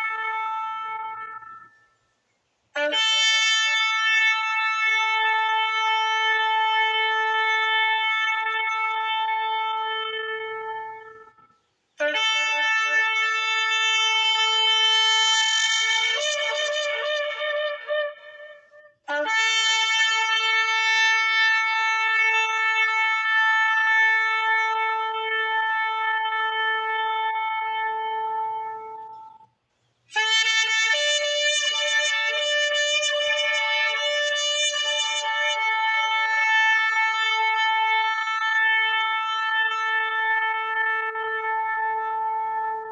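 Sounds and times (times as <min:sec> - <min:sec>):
shofar blasts: 0:00.0 - 0:02.0, 0:02.8 - 0:29.4, 0:30.1 - 0:42.9.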